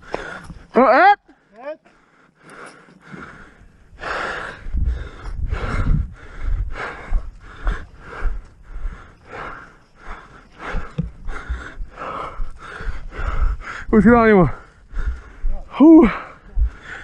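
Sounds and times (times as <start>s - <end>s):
person breathing hard: 0.0s - 0.7s, 1.4s - 17.0s.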